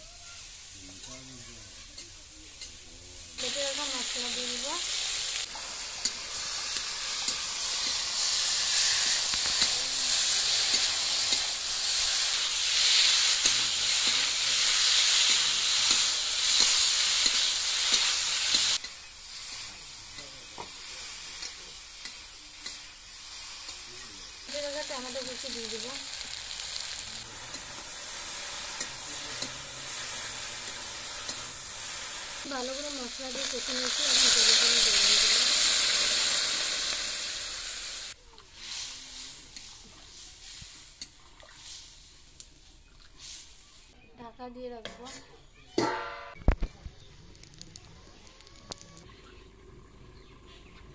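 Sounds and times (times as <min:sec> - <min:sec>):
vegetables sizzling in hot oil: 0:00.0 - 0:44.0.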